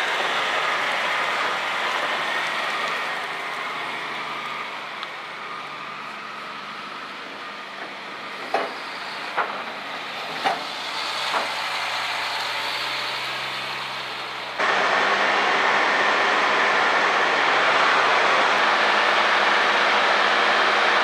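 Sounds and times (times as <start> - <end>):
heavy truck engine running: 0.0 - 21.0.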